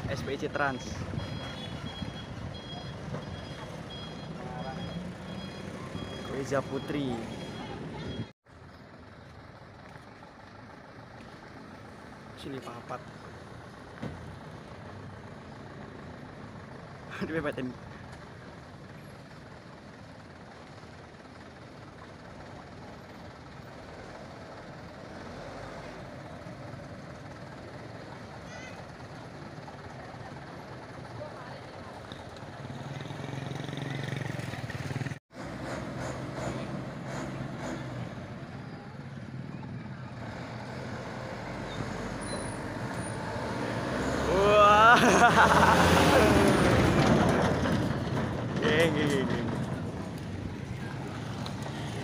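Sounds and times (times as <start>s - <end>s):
truck engines running: 0.0s - 52.0s.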